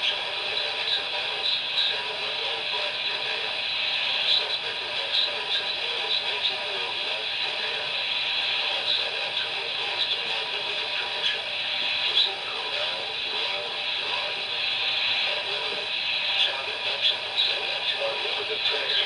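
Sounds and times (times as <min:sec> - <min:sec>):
radio static hiss: 0:00.1 - 0:19.0.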